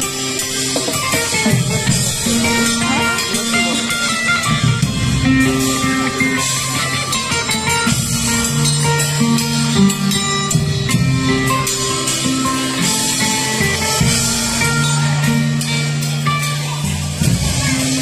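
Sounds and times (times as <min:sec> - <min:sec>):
held bass notes: 0:00.0 - 0:18.0
percussion: 0:00.0 - 0:18.0
plucked string instrument melody: 0:00.0 - 0:18.0.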